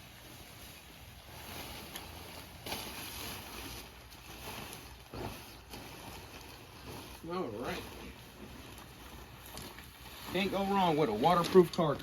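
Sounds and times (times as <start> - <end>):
car cover rustling: 0.0 - 12.0.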